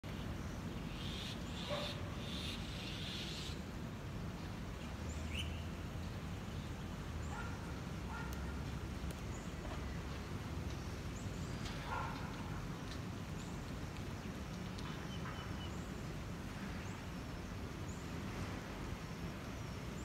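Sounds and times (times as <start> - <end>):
low traffic hum: 0.0 - 20.0.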